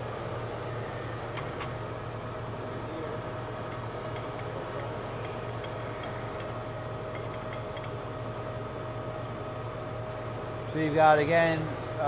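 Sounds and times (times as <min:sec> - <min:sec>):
lathe humming with whine: 0:00.0 - 0:12.0.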